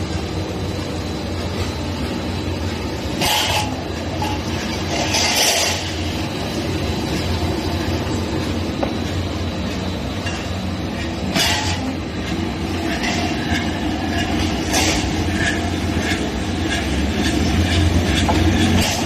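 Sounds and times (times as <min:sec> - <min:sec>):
machine hum: 0:00.0 - 0:19.0
rolling metallic clatter: 0:00.0 - 0:19.0.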